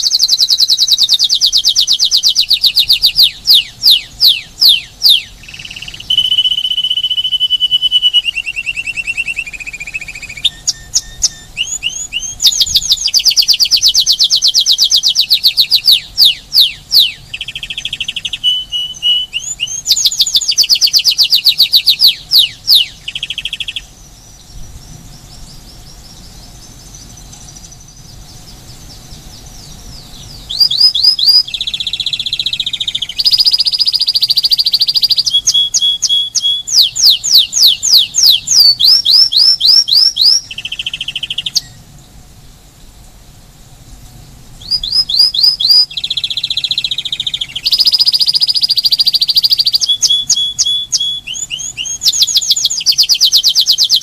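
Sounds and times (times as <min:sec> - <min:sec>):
canary singing: 0:00.0 - 0:42.2, 0:44.1 - 0:54.0.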